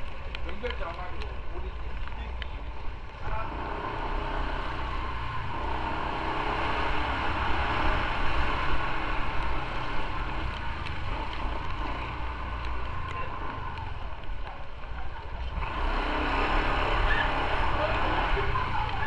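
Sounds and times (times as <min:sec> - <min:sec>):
wind and wet road hiss: 0:00.0 - 0:19.0
motorcycle engine running: 0:00.8 - 0:19.0.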